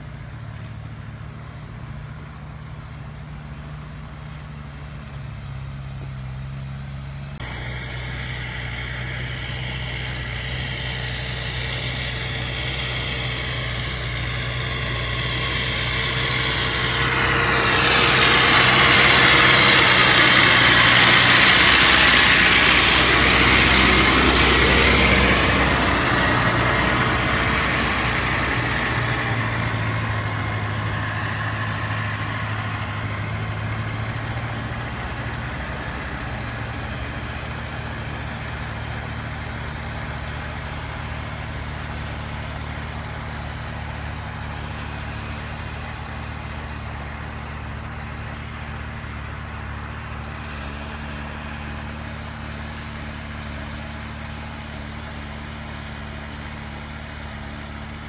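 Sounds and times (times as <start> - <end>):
tractor engines working: 0.0 - 58.0.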